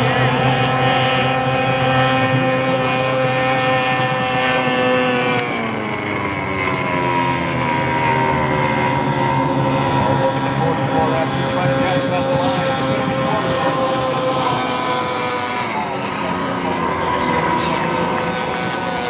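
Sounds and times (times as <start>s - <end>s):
outboard motor at high revs: 0.0s - 19.0s.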